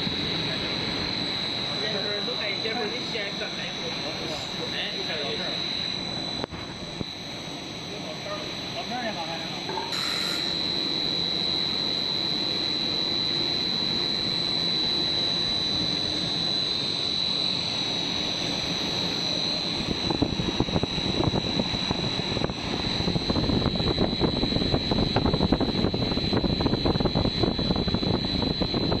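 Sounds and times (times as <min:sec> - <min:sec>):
machine drone with whine: 0:00.0 - 0:29.0.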